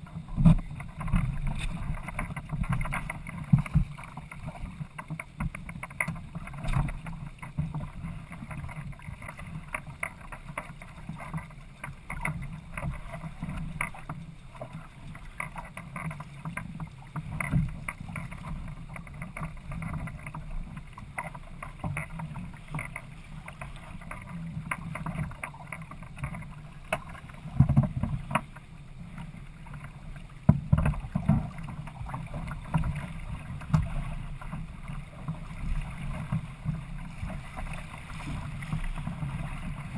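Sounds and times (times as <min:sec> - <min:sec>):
water slapping against kayak hull: 0:00.0 - 0:39.9.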